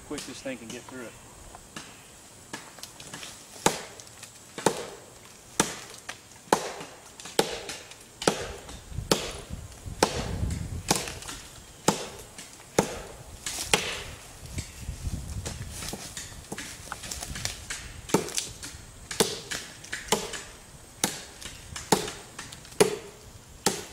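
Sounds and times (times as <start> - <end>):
machete chopping wood: 1.7 - 14.8, 15.4 - 23.9.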